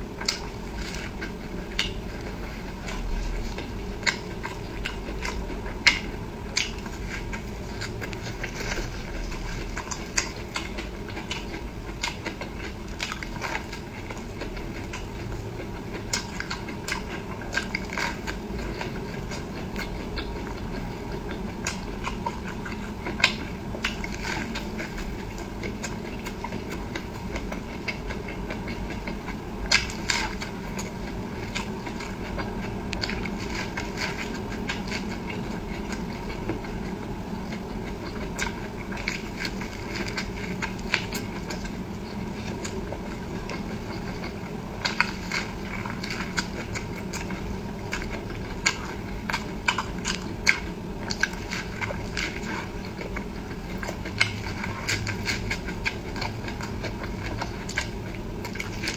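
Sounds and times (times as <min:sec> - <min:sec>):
person chewing food: 0:00.0 - 0:58.9
steady low hum: 0:00.0 - 0:58.9.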